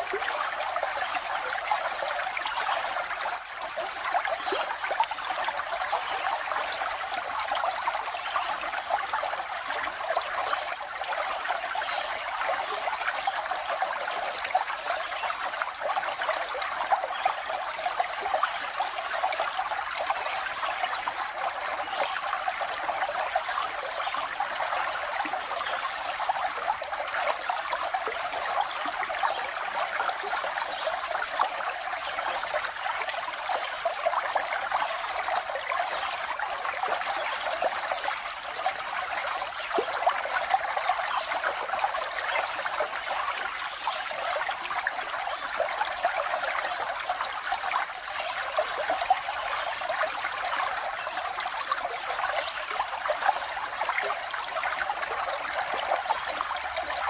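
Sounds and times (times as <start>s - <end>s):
stream burbling: 0.0s - 57.0s.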